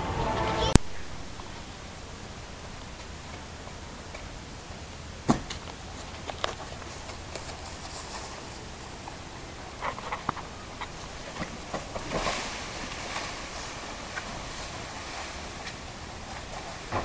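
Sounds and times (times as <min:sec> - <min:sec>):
rush of noise: 0:00.0 - 0:17.0
steady outdoor hiss: 0:00.0 - 0:17.0.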